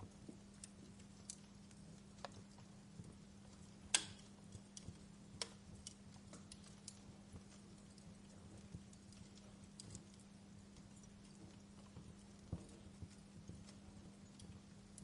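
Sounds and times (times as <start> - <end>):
faint steady hum: 0.0 - 15.0
wood fire crackling: 0.0 - 15.0.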